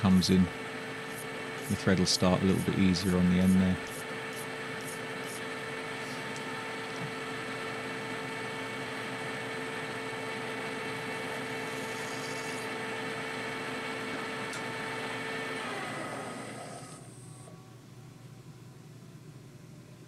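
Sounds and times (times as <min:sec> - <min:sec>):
metal lathe whining: 0:00.0 - 0:17.5.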